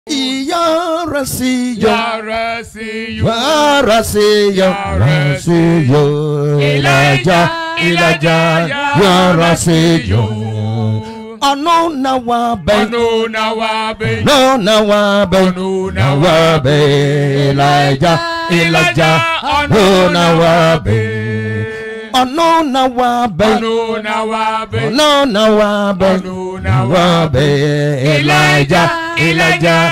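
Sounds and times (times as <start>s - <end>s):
voices chanting a song: 1.8s - 11.4s, 12.6s - 29.9s.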